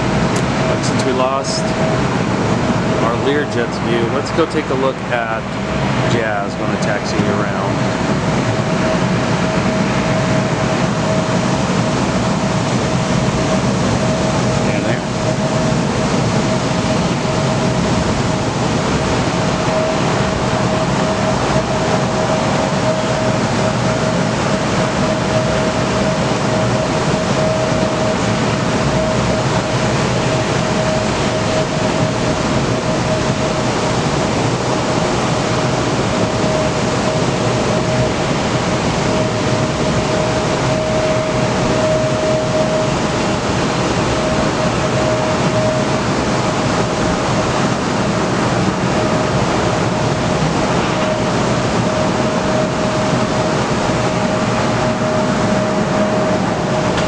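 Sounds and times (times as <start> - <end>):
aircraft engines idling: 0.0 - 57.0
steady humming tone: 0.0 - 57.0
strong wind rushing: 0.0 - 57.0.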